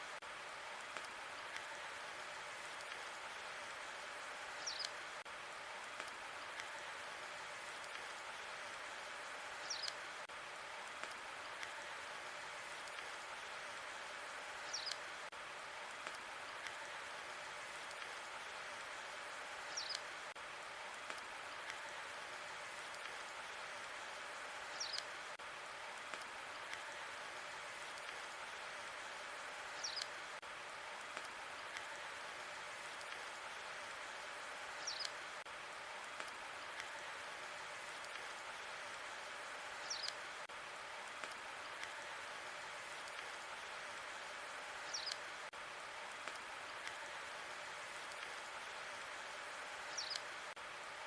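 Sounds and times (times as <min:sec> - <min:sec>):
log fire crackling: 0:00.1 - 0:51.0.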